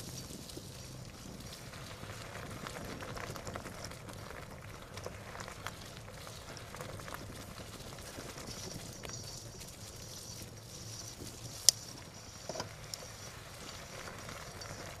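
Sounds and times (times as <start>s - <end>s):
bicycle tyres rumbling on dirt: 0.0s - 15.0s
leaves and grit crackling: 0.0s - 15.0s.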